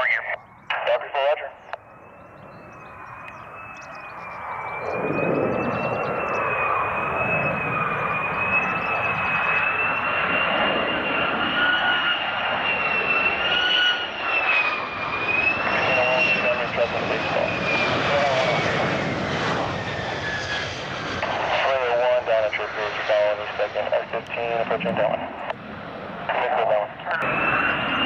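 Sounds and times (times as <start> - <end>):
fighter jet engines whining: 0.0 - 28.0.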